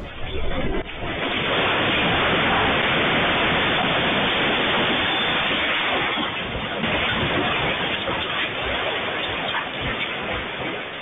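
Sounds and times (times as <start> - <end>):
rush of falling debris: 0.8 - 11.0.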